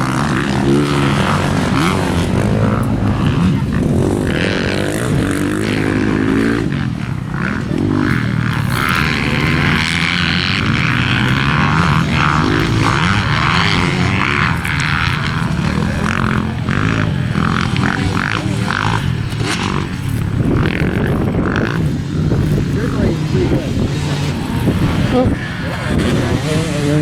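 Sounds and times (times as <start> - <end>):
dirt bike engines racing: 0.0 - 27.0.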